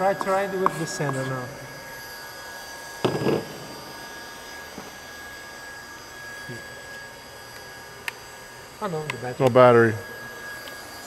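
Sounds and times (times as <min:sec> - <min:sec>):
faint high whine: 0:00.0 - 0:11.0
workshop hum: 0:00.0 - 0:11.0.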